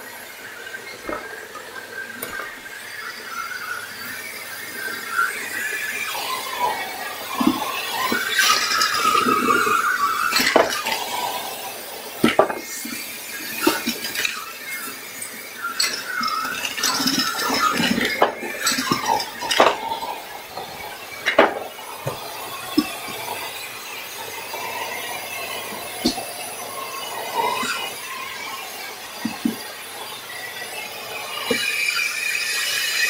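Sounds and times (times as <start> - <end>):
vacuum cleaner whistling: 0.0 - 33.0
batteries rattling through hose: 0.7 - 33.0.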